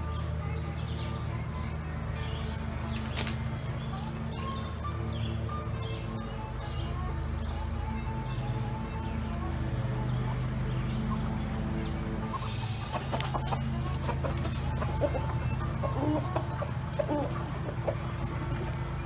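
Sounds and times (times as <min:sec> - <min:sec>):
background music: 0:00.0 - 0:19.0
hens clucking: 0:00.0 - 0:19.0.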